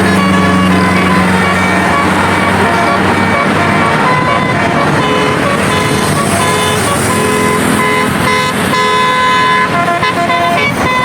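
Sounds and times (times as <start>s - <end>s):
bus musical horn tune: 0.0s - 11.0s
road vehicle noise: 0.0s - 11.0s.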